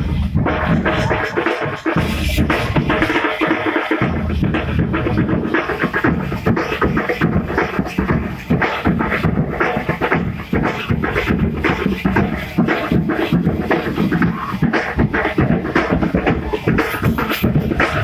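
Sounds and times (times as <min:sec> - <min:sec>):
drummers playing fast rhythm: 0:00.0 - 0:18.0.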